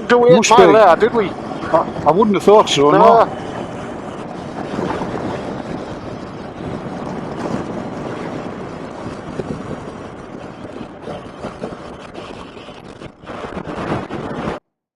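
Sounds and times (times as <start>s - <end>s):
motorcycle road noise: 0.0s - 14.6s
wind over camera microphone: 0.0s - 14.6s.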